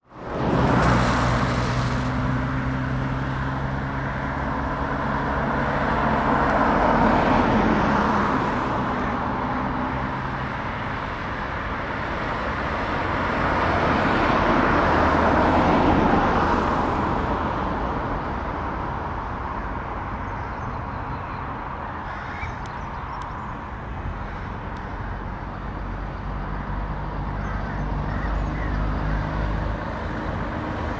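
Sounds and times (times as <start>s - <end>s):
heavy trucks driving past: 0.1s - 30.9s
steady engine hum: 0.1s - 30.9s.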